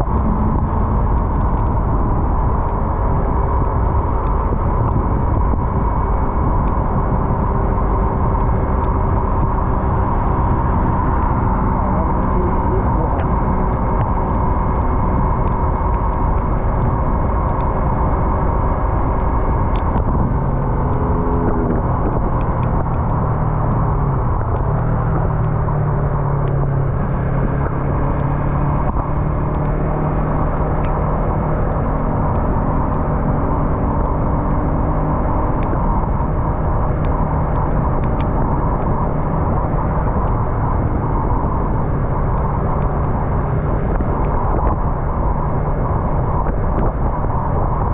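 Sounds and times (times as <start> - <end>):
road and wind noise: 0.0 - 47.9.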